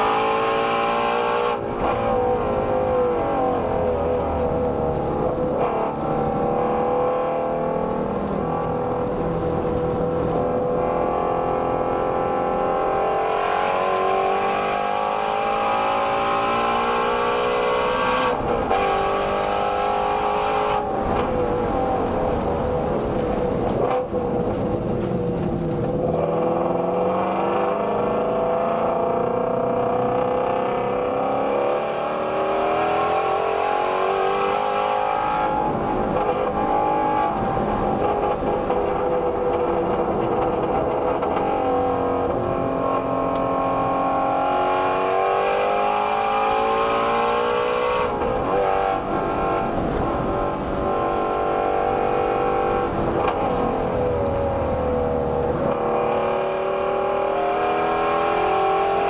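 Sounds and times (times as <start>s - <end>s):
car engine revving hard: 0.0s - 22.3s, 25.9s - 59.0s.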